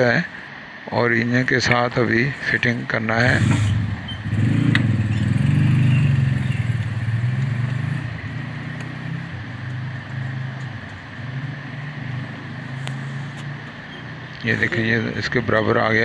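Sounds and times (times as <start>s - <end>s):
engine humming: 2.4s - 16.0s.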